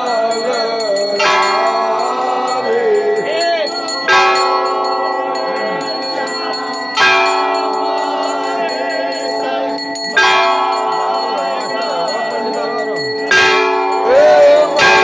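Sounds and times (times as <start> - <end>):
large bell ringing: 0.0 - 15.0
voices singing: 0.0 - 15.0.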